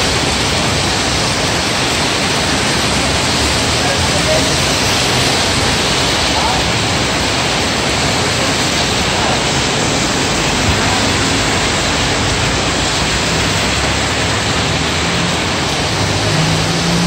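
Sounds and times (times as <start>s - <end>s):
heavy rain on pavement: 0.0s - 17.0s
vehicle passing on wet road: 0.0s - 17.0s.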